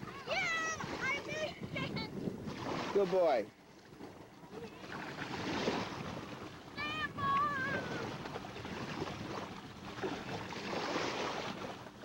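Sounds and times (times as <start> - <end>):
surf: 0.0 - 12.0
wind: 0.0 - 12.0.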